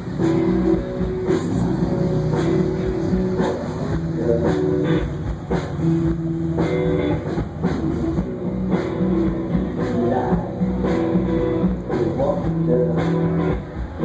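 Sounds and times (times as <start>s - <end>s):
drum beat: 0.0s - 14.0s.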